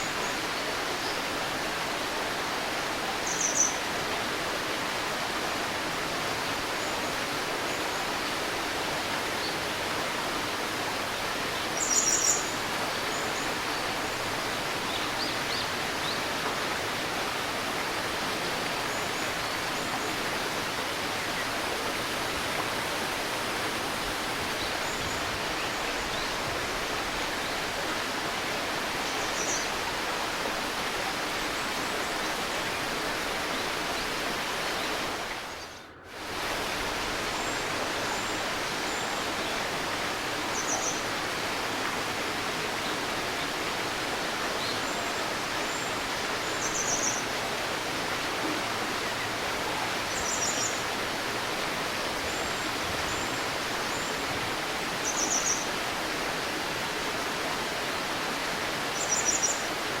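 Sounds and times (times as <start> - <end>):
river murmuring: 0.0 - 60.0.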